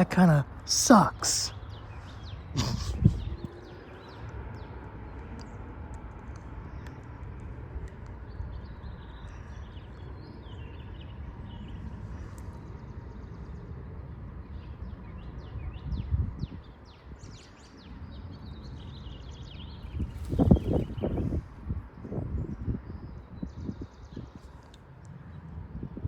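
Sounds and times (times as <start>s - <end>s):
small birds chirping: 0.0s - 13.8s, 14.4s - 21.4s
wind rumbling on microphone: 1.5s - 26.0s.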